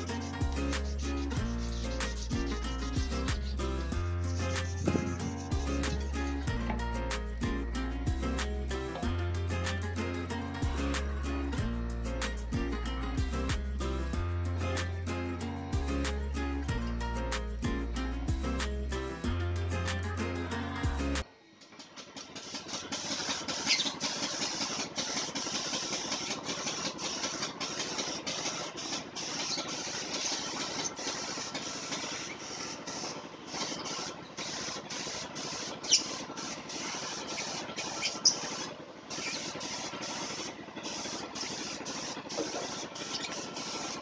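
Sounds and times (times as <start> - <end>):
paint spray gun hissing: 0.0 - 17.7, 18.3 - 44.0.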